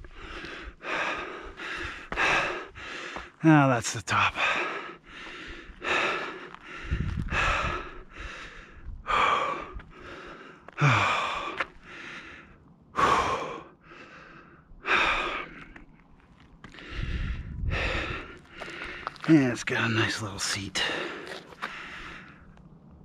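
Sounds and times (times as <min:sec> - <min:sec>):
person breathing hard: 0:00.0 - 0:03.4, 0:04.2 - 0:15.8, 0:16.7 - 0:19.3, 0:20.8 - 0:22.5.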